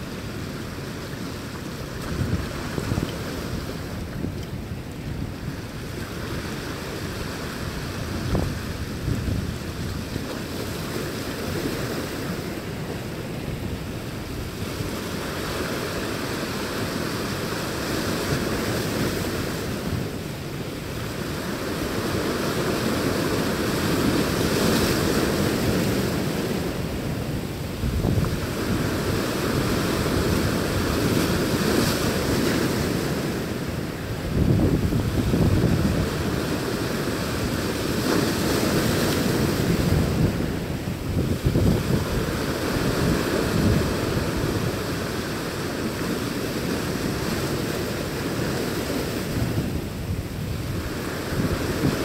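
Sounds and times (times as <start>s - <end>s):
surf breaking over rocks: 0.0s - 52.0s
wind buffeting microphone: 1.8s - 20.4s, 21.0s - 52.0s.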